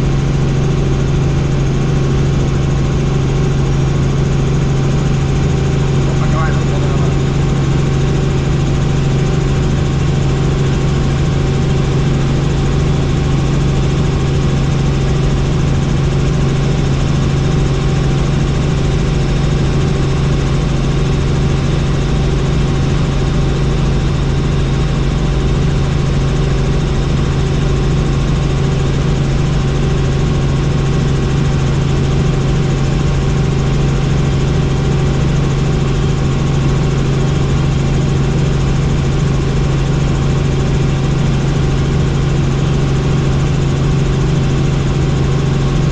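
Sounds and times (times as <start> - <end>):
helicopter rotor drone: 0.0 - 45.9.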